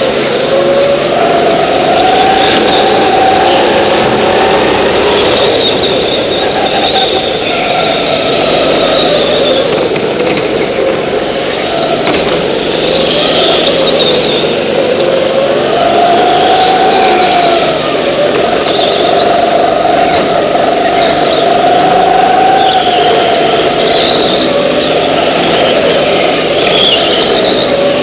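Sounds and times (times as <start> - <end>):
go-kart engine revving: 0.0 - 28.0.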